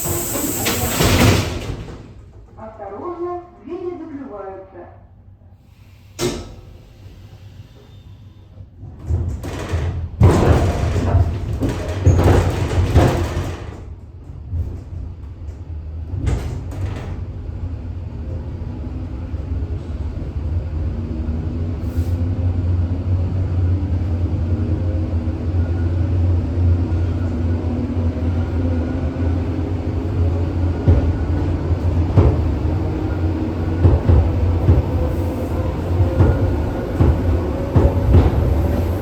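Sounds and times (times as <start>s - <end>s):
train rumble: 0.0s - 2.9s, 5.7s - 39.0s.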